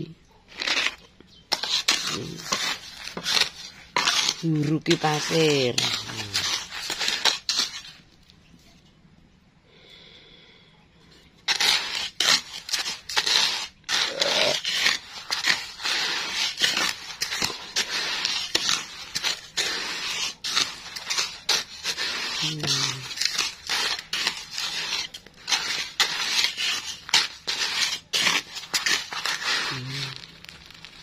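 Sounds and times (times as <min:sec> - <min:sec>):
wooden spatula scraping sand: 0:00.5 - 0:08.1, 0:11.1 - 0:31.0.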